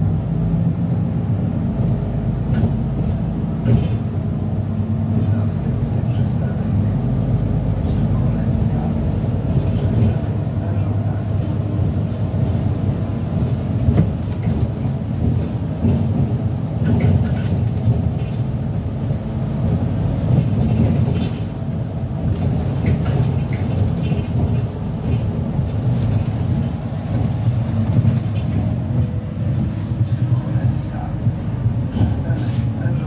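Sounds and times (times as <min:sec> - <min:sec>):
bus engine and road rumble: 0:00.0 - 0:33.0
bus body rattles: 0:01.3 - 0:33.0.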